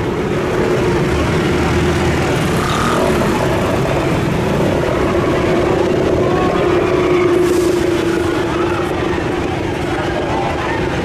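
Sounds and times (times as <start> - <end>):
scooter engines running: 0.0 - 11.0.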